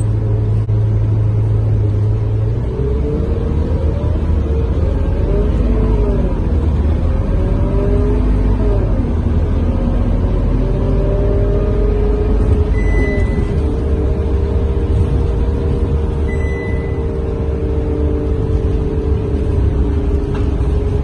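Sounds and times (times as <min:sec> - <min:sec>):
bus engine rumble with whine: 0:00.0 - 0:21.0.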